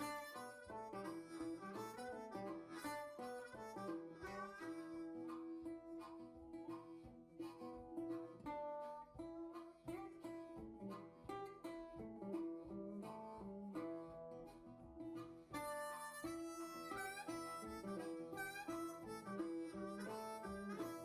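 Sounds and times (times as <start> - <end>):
bluesy harmonica: 0.0 - 21.0
plucked acoustic guitar: 0.0 - 21.0.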